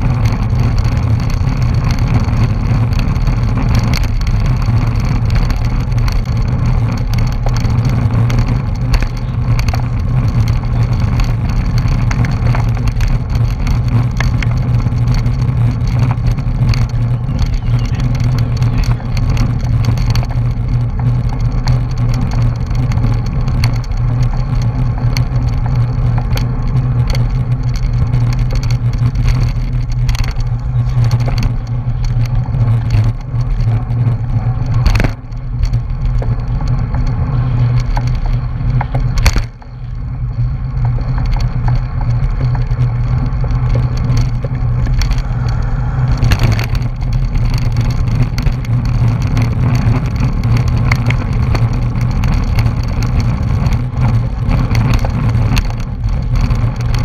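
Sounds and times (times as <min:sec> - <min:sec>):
road and tyre noise: 0:00.0 - 0:57.0
wind buffeting microphone: 0:00.0 - 0:57.0.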